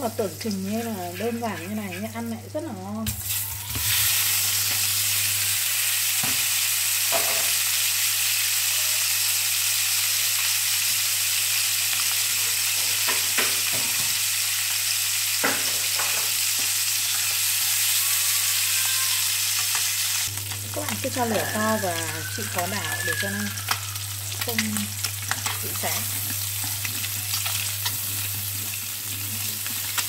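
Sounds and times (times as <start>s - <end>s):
eggs sizzling in a pan: 0.0s - 30.0s.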